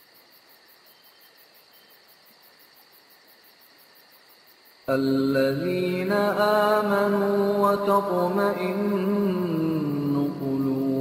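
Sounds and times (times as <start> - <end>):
faint insect chirping: 0.0 - 11.0
steady high hiss: 0.0 - 11.0.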